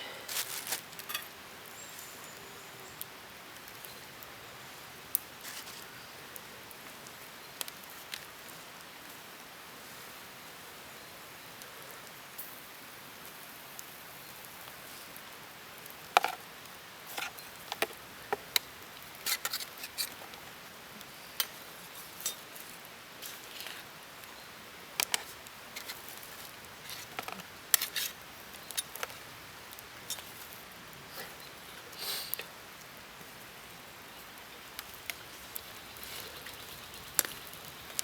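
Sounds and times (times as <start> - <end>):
faint steady hiss: 0.0 - 38.0.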